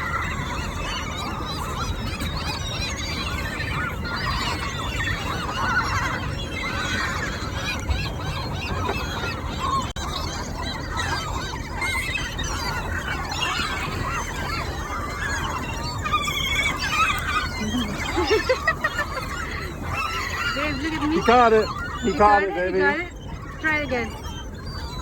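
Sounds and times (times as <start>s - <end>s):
seagulls calling: 0.0s - 25.0s.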